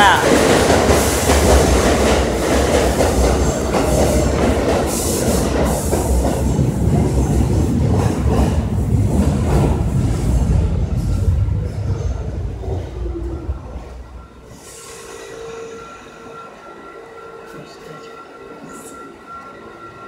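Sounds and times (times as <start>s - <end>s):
train running on elevated track: 0.0s - 20.0s.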